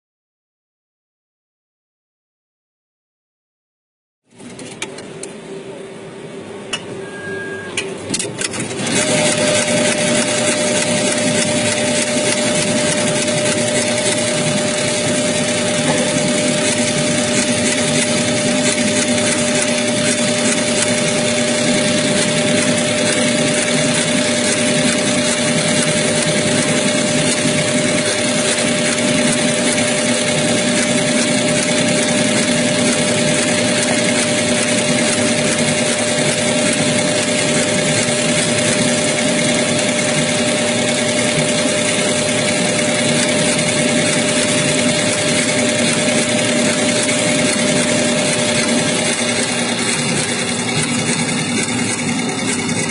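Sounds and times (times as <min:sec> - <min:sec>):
machine hum: 0:04.3 - 0:52.9
embroidery machine chatter: 0:06.7 - 0:52.9.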